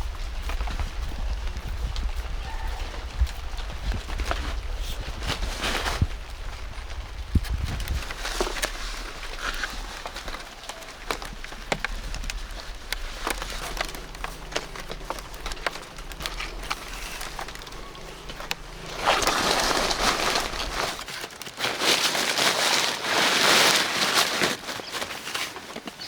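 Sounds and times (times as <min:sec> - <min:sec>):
low hum: 0:00.0 - 0:21.0
light clicks and crackles: 0:00.0 - 0:22.3
loud rustling: 0:00.0 - 0:24.2.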